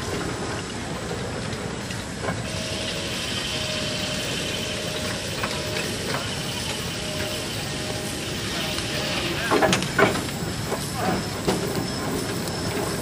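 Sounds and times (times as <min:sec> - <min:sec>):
steam hissing: 0:00.0 - 0:13.0
steam traction engine running: 0:00.0 - 0:13.0.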